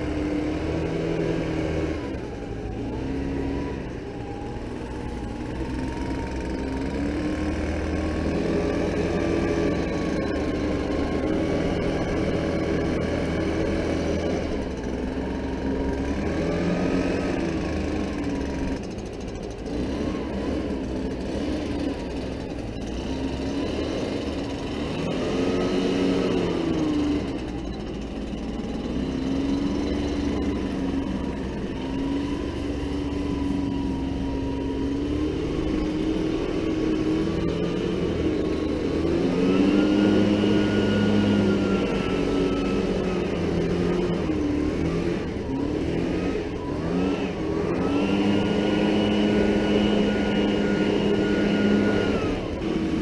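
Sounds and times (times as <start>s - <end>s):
leaf blower engine revving: 0.0s - 53.0s.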